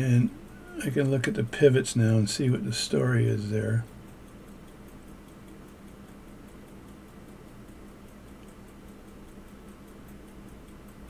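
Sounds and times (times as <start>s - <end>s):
watch ticking: 0.0s - 11.0s.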